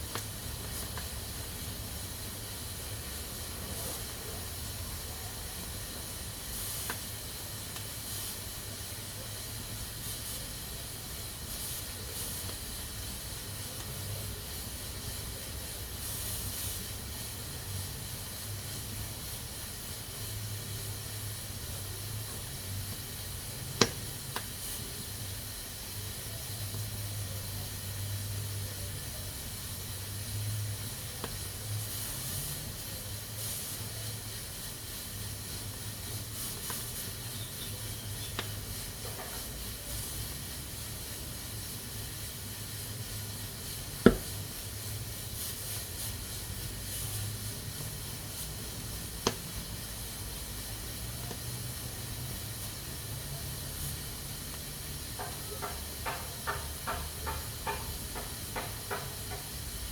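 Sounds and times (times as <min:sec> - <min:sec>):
pressure cooker hissing steam: 0:00.0 - 0:59.9.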